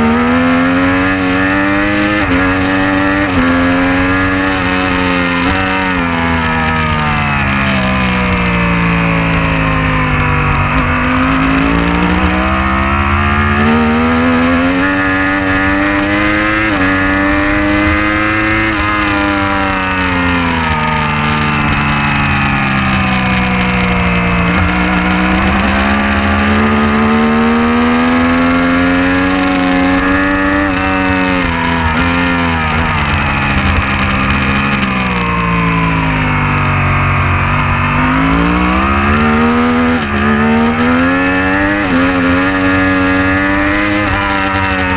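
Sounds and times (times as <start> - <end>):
racing motorcycle engine: 0.0 - 44.9
steady rushing noise: 0.0 - 44.9.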